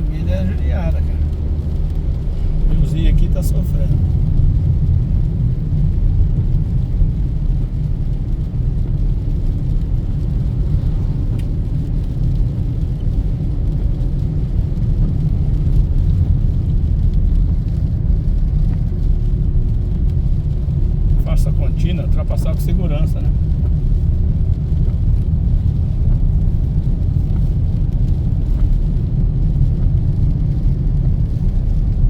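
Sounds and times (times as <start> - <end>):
car driving on highway: 0.0 - 32.0.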